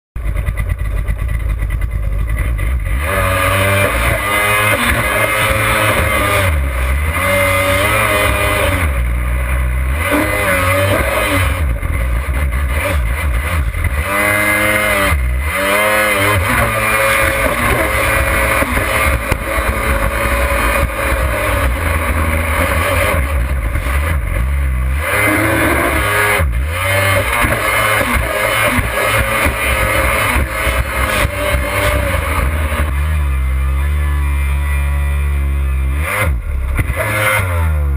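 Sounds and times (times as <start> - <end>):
jet ski engine revving: 0.2 - 37.9.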